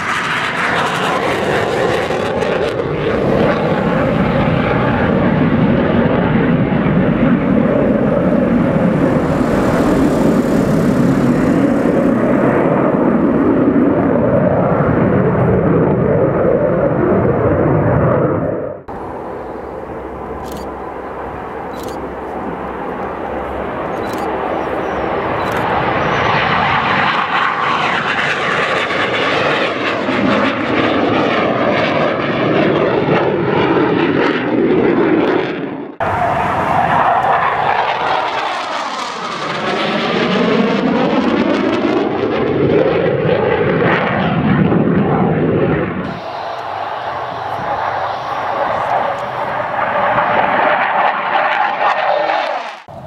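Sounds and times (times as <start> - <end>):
jet engine flying past: 0.0 - 53.0.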